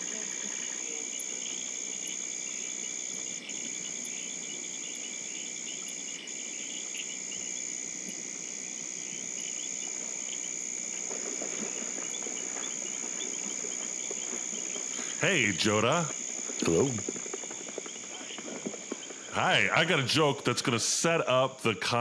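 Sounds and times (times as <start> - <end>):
high-pitched insect drone: 0.0 - 21.3
pulsing insect trills: 0.0 - 22.0.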